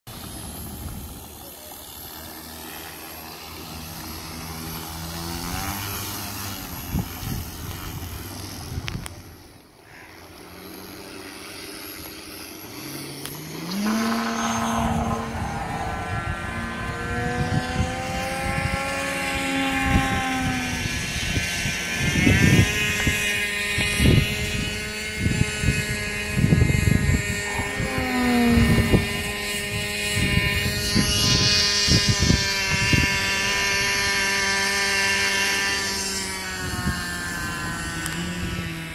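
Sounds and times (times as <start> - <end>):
model plane electric motor whining: 0.1 - 38.9.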